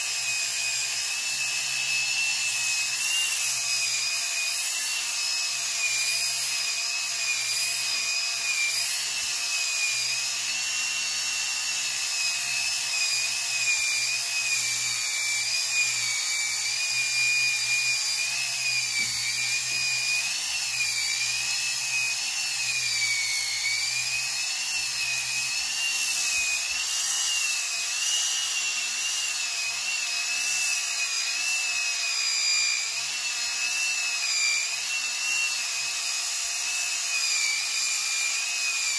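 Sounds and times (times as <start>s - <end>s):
rotary sander whining: 0.0s - 38.9s.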